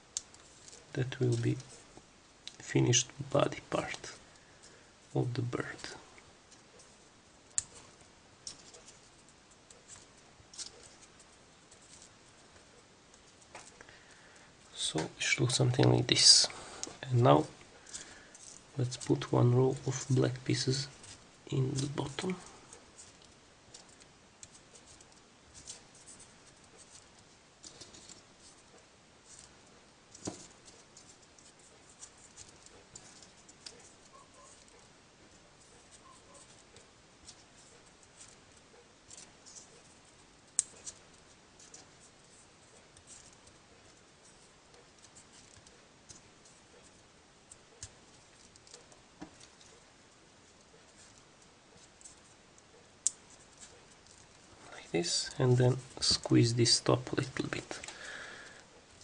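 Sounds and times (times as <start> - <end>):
soft paper rustling: 0.2 - 2.0, 2.6 - 59.0.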